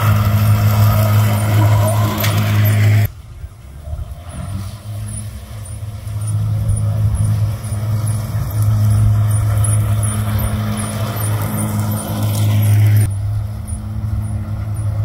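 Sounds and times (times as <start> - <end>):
electric mower humming: 0.0 - 15.0.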